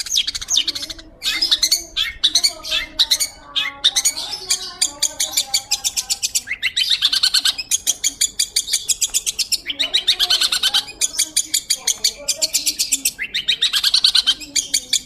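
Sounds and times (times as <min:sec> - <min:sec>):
bird singing high chips: 0:00.0 - 0:15.0.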